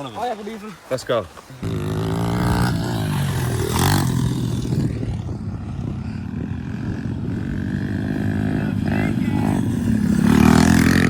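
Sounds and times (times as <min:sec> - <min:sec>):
pit bike engine running: 0:01.6 - 0:11.0.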